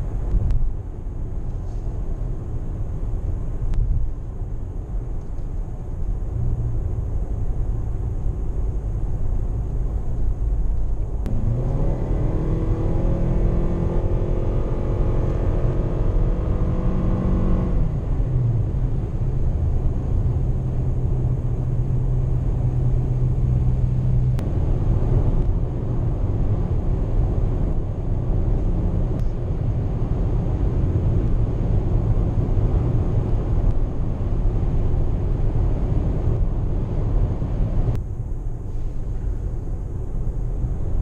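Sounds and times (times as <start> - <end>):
car cabin road rumble: 0.0 - 41.0.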